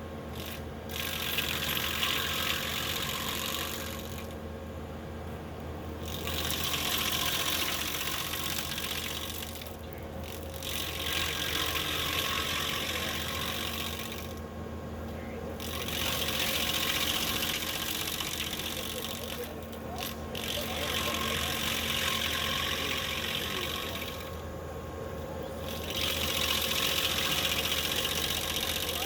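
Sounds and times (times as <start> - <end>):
stump grinder grinding wood: 0.0 - 4.4, 6.0 - 14.4, 15.6 - 24.5, 25.5 - 29.0
skid-steer engine running: 0.0 - 29.0.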